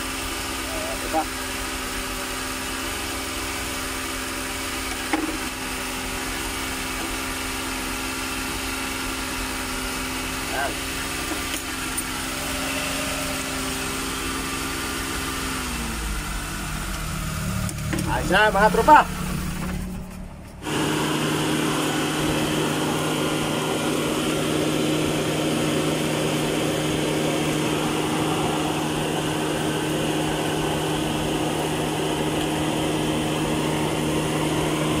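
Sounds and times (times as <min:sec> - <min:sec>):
engine humming steadily: 0:00.0 - 0:35.0.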